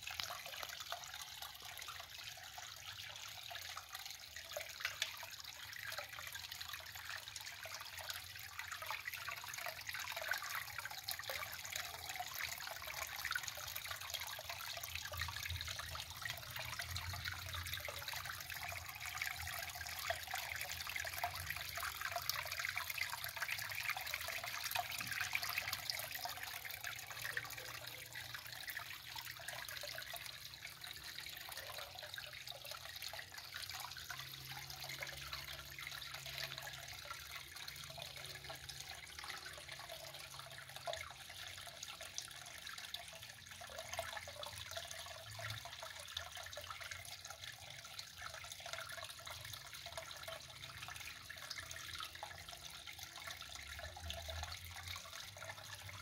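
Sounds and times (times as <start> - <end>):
water trickling over rocks: 0.0 - 56.0.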